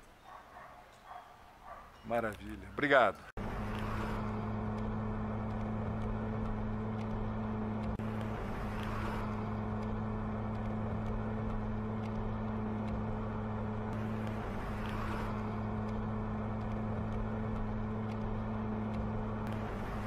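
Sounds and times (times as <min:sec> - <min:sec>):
road noise: 0:00.0 - 0:20.0
car engine droning: 0:03.4 - 0:20.0.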